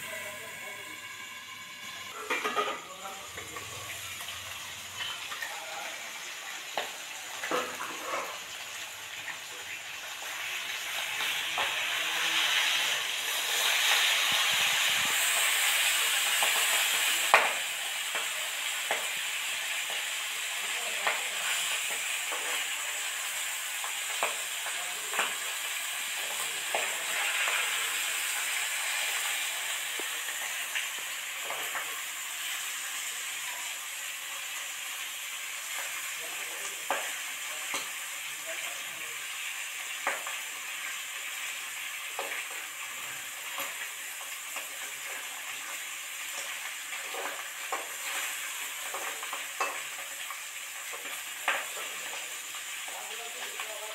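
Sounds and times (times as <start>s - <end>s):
fish sizzling in oil: 0.0s - 53.9s.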